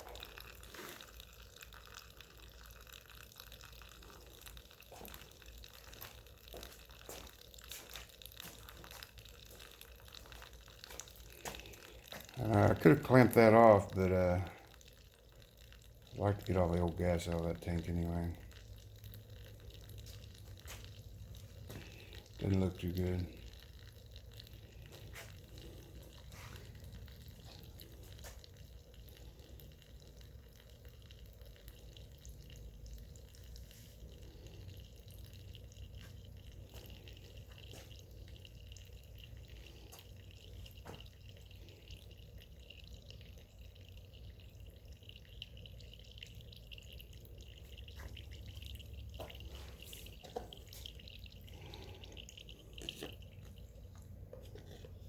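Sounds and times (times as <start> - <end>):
fuel trickling into a cup: 0.0 - 55.0.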